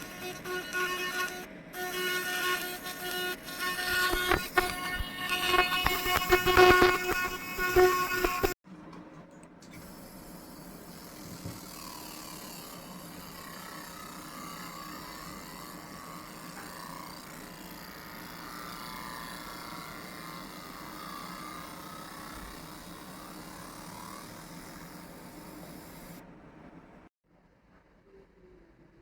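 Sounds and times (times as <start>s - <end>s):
laser marking machine running: 0.0s - 8.6s, 9.8s - 26.2s.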